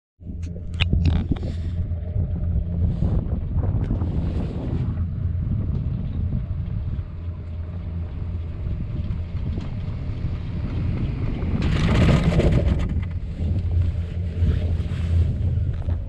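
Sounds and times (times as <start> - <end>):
tram rumbling: 0.2 - 16.0
wind buffeting microphone: 0.2 - 16.0.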